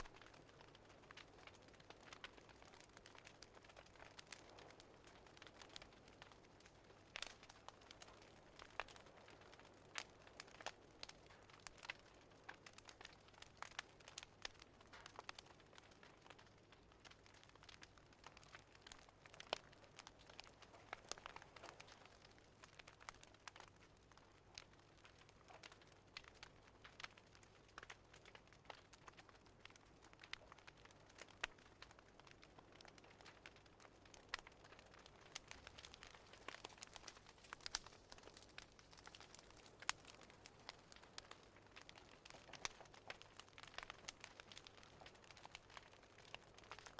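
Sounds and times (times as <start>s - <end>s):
fireplace crackling: 0.0s - 46.9s.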